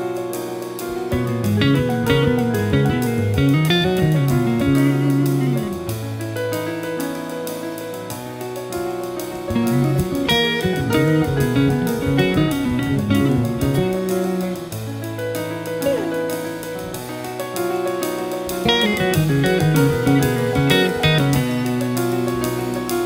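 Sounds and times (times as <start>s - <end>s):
electric guitar: 0.0s - 23.0s
piano: 0.0s - 23.0s
electric bass line: 0.9s - 7.0s, 8.6s - 23.0s.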